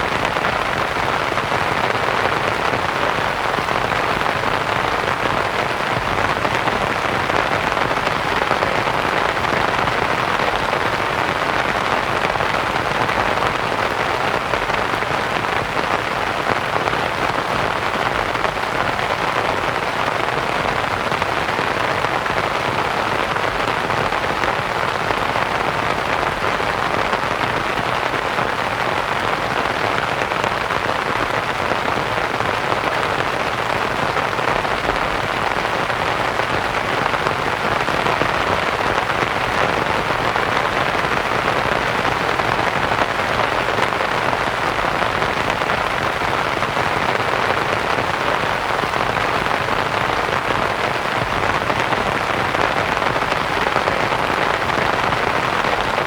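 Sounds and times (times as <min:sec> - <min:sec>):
rain on a canvas tent: 0:00.0 - 0:56.0.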